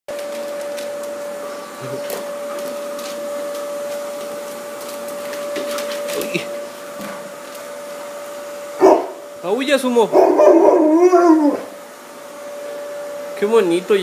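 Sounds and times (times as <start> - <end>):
machine whine: 0.1 - 14.0.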